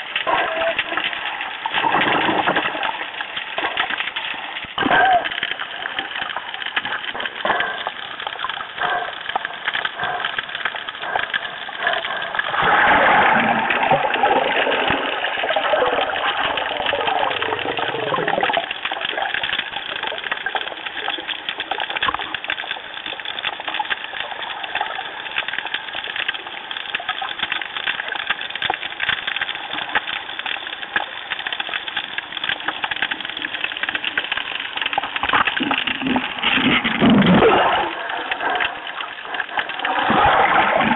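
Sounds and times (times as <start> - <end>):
underwater crackle of small clicks: 0.0 - 40.9
watery gurgling: 0.0 - 40.9.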